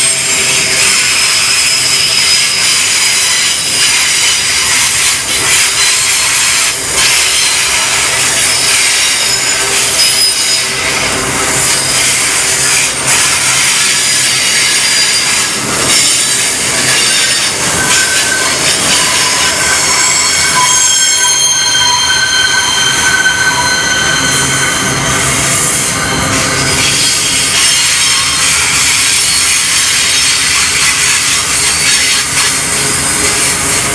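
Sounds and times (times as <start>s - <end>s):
high-pitched wheel squeal: 0.0s - 33.9s
steel wheels rushing on rail: 0.0s - 33.9s.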